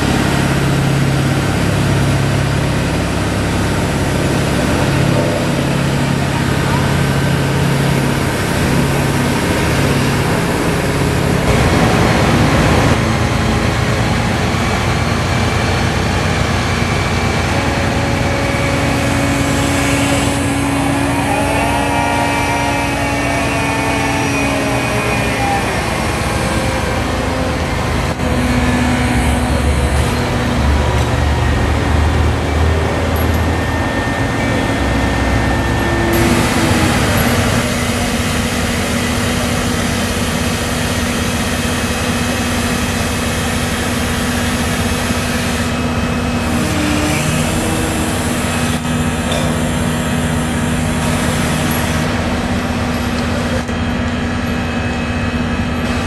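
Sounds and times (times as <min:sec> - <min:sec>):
crane engine and hydraulics: 0:00.0 - 0:56.0.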